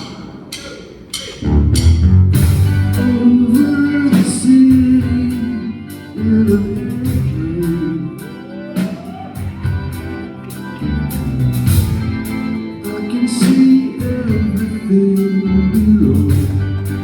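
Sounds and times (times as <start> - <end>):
drums: 0.0 - 17.0
bass: 1.4 - 17.0
guitars: 1.4 - 17.0.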